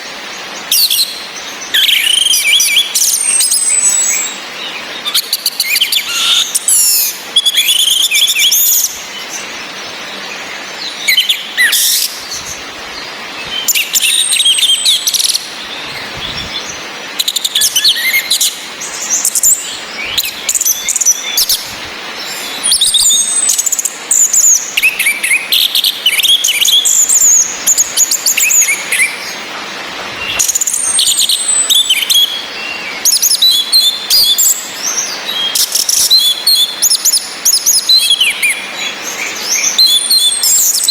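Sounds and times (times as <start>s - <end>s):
rain hissing: 0.0s - 40.9s
thrush singing and calling: 0.0s - 40.9s.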